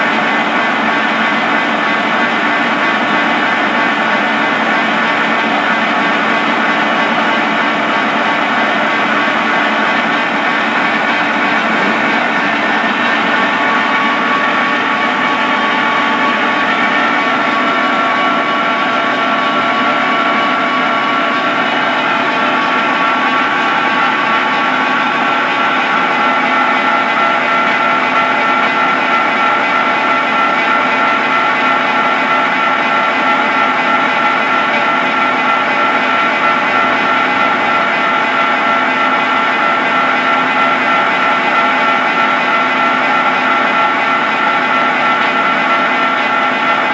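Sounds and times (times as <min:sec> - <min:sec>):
machine motor and gears humming: 0:00.0 - 0:46.9.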